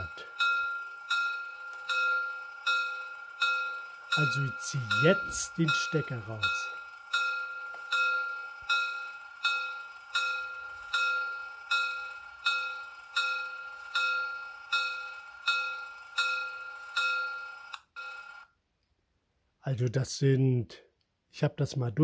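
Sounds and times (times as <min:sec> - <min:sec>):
electronic bell ringing from small speaker: 0:00.0 - 0:18.6.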